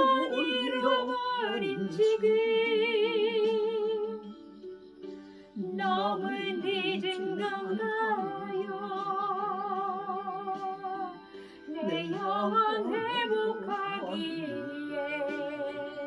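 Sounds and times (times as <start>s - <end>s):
person singing with vibrato: 0.0s - 4.4s, 5.6s - 16.0s
keyboard accompaniment: 0.0s - 16.0s.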